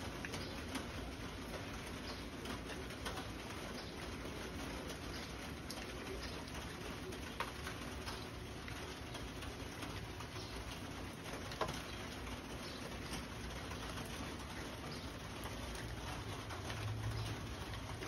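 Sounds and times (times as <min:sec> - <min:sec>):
rain hissing and pattering: 0:00.0 - 0:18.0.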